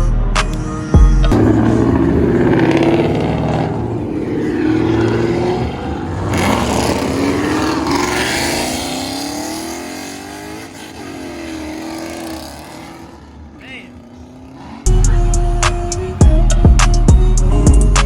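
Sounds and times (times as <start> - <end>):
car engine revving: 1.3 - 18.0.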